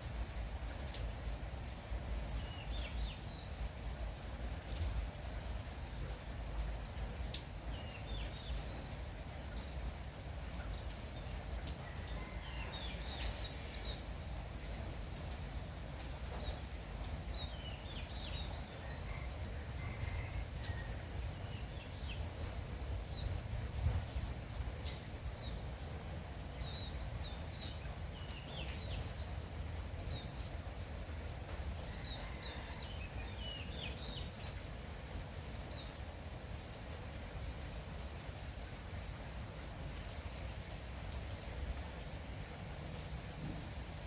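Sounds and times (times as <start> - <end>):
light drizzle: 0.0 - 44.0
sharp drip ticks: 0.1 - 44.0
small birds chirping: 0.4 - 36.3.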